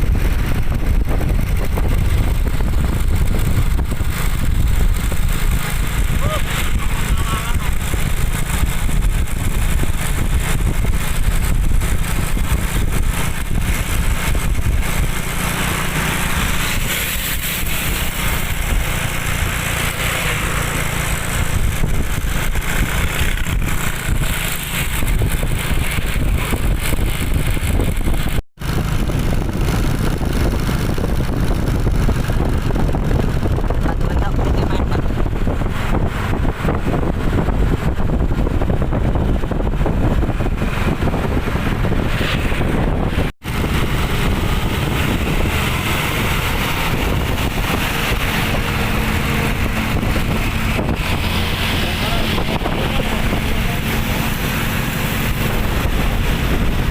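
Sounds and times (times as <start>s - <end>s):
motor vehicle rumble: 0.0s - 56.9s.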